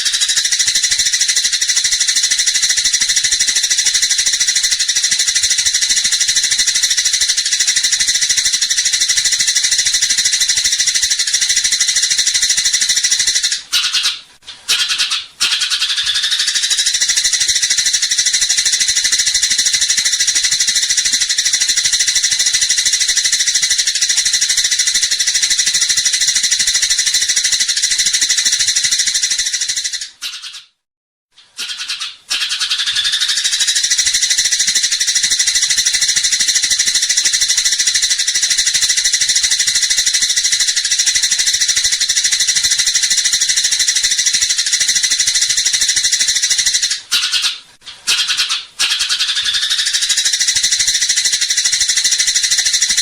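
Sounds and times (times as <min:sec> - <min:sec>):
sparrows chirping: 0:00.0 - 0:30.7, 0:31.6 - 0:53.0.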